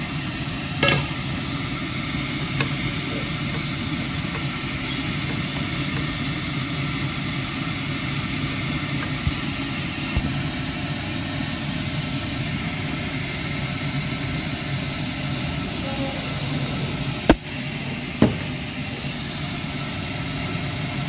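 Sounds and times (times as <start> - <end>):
machine-like hum: 0.0 - 21.0.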